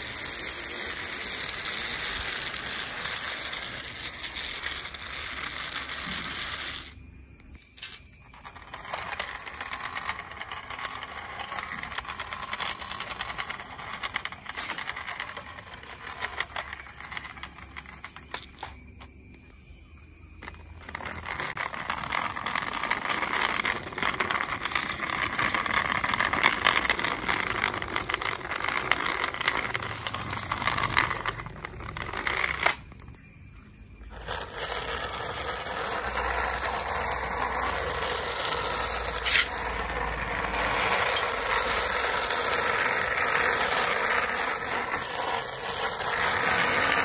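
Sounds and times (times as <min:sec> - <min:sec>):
plastic wheels rolling on concrete: 0:00.0 - 0:47.0.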